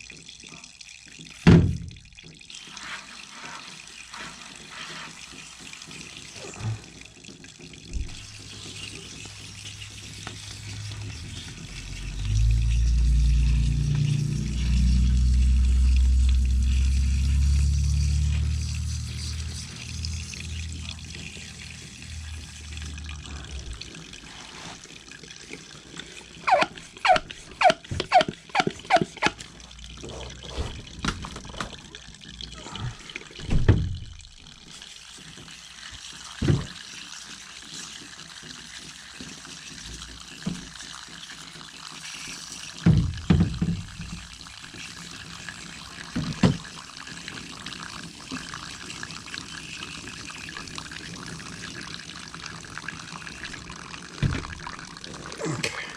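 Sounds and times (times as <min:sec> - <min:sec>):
water spraying and trickling: 0:00.0 - 0:55.9.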